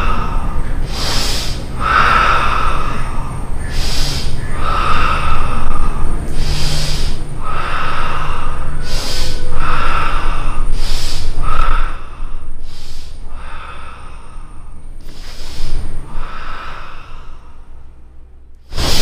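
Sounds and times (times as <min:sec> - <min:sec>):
forced hissing breaths: 0:00.0 - 0:19.0.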